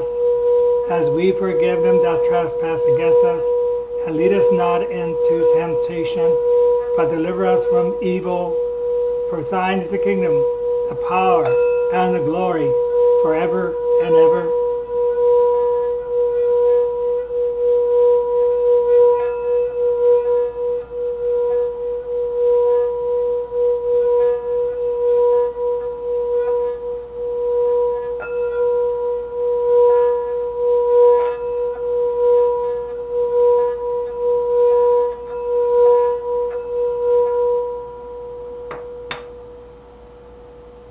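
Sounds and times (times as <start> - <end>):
steady held tone: 0.0 - 40.9.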